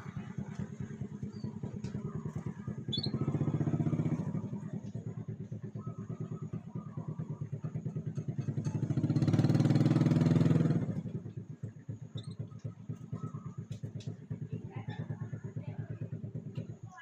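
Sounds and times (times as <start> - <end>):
engine running with fast pulse: 0.0 - 17.0.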